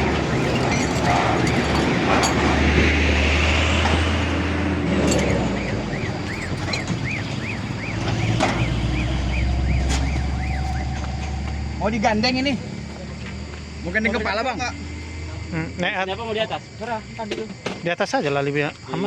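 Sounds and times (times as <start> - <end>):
heavy truck engine running: 0.0 - 17.7
road noise: 0.0 - 18.8.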